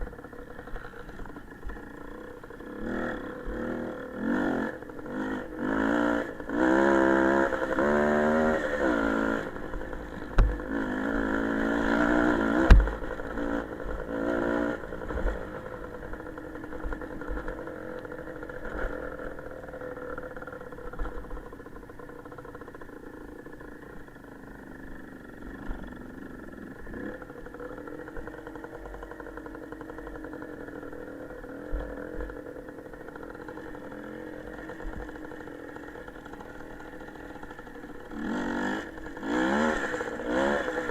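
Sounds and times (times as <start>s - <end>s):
small motorcycle engine revving: 0.0s - 40.9s.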